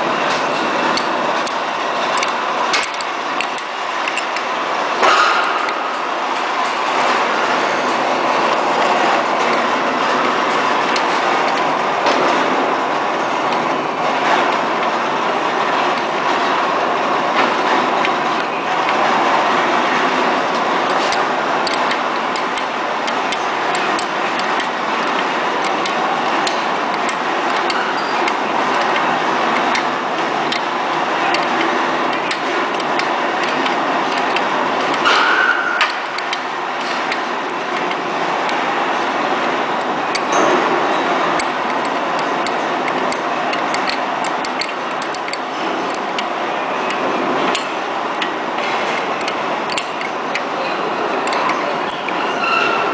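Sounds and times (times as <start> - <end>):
running machinery noise: 0.0 - 52.9.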